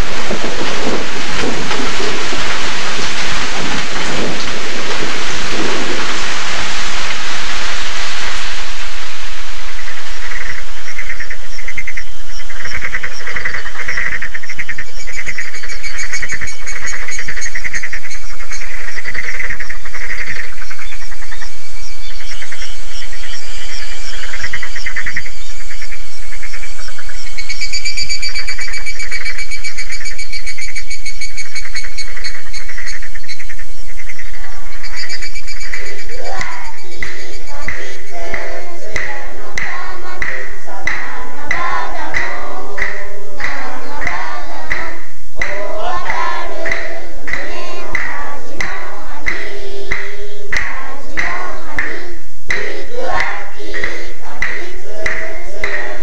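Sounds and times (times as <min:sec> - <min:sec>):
rain hiss: 0:00.0 - 0:52.5
tape hiss: 0:00.0 - 0:56.0.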